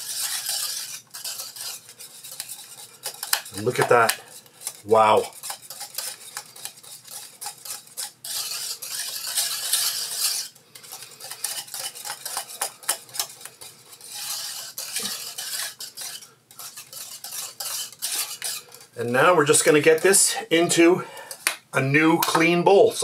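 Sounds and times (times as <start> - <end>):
whisk scraping a metal saucepan: 0.0 - 21.6.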